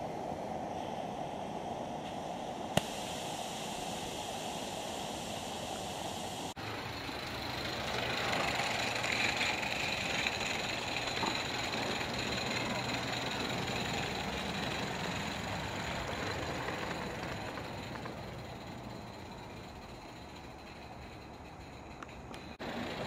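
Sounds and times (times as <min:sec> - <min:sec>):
model steam locomotive hissing: 0:00.0 - 0:23.0.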